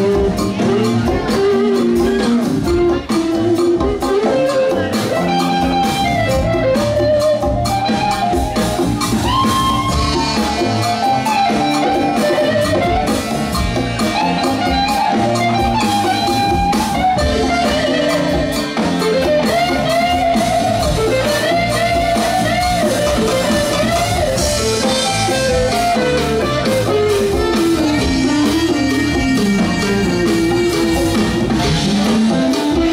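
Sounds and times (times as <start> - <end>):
electric guitar: 0.0 - 32.9
live funk band playing: 0.0 - 32.9.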